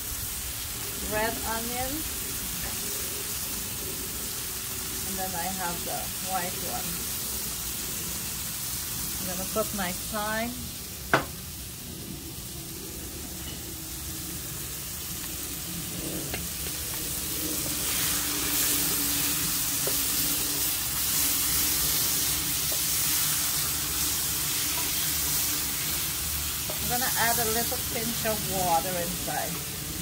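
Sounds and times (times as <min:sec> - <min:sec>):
vegetables sizzling in a frying pan: 0:00.0 - 0:30.0.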